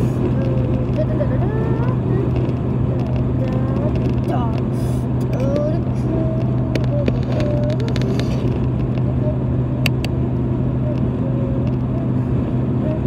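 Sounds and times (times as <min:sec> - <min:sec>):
engine and tyre drone: 0:00.0 - 0:13.0.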